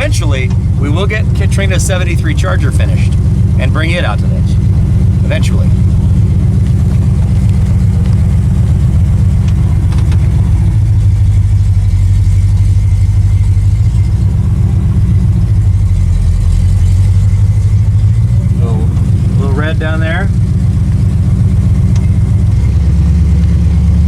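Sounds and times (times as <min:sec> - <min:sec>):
car engine low drone: 0:00.0 - 0:24.0.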